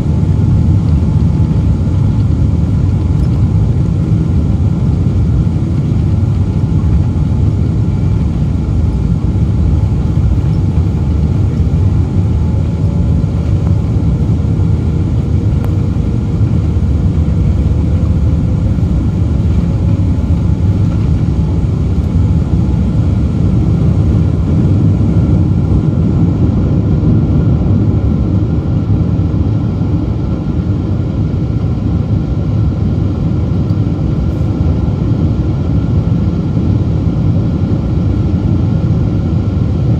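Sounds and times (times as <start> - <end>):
jet engines at takeoff power: 0.0 - 39.9.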